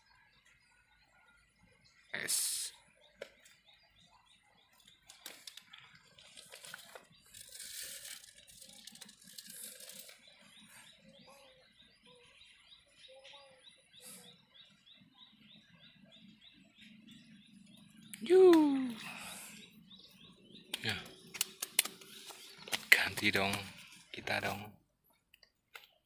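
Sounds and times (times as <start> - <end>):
high bird chirp: 0.0 - 24.6
lower bird chirps: 0.0 - 24.7.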